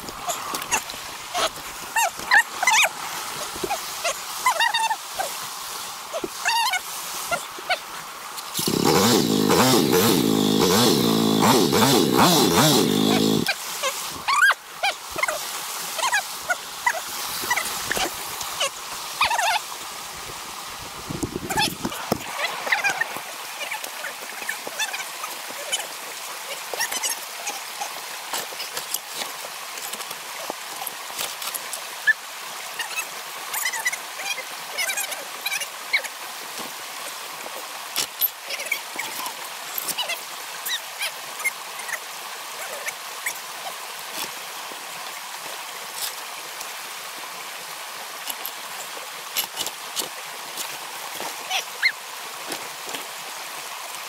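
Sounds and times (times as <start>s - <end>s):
creek water running over rocks: 0.0s - 54.0s.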